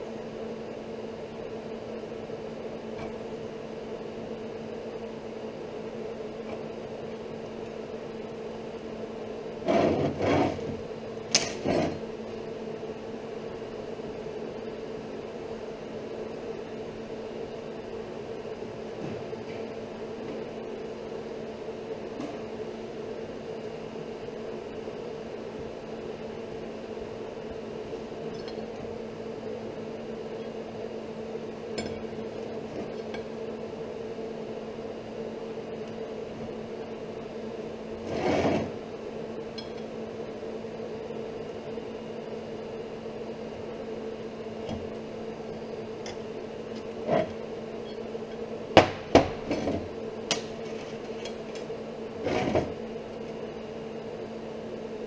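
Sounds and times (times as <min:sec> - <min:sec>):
low workshop hum: 0:00.0 - 0:55.0.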